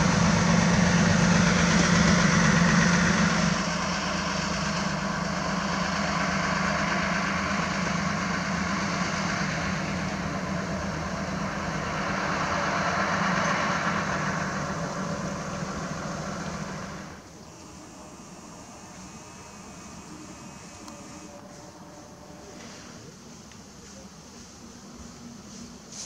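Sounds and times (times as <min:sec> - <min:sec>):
diesel locomotive engine hum: 0:00.0 - 0:26.0
train rumbling past: 0:00.0 - 0:26.0.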